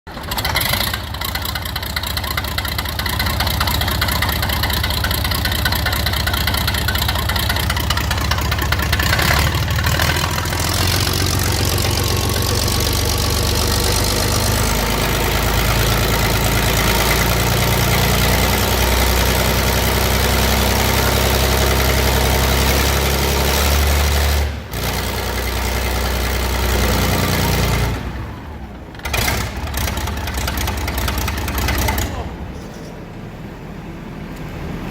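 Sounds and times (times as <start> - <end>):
diesel engine starting and running: 0.0 - 34.9.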